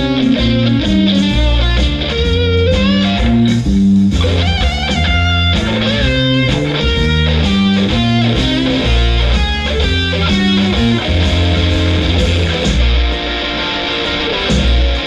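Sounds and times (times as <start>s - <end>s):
heavy bass line: 0.0s - 15.0s
rock music with electric guitar: 0.0s - 15.0s.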